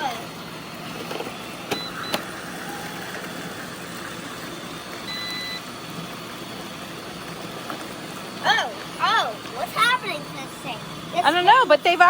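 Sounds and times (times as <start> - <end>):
robot vacuum cleaners whirring: 0.0 - 12.0.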